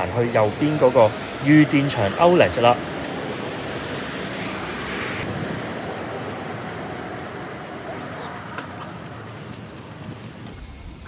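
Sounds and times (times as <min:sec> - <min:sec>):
traffic on wet road: 0:00.0 - 0:10.6
rain: 0:00.0 - 0:11.0.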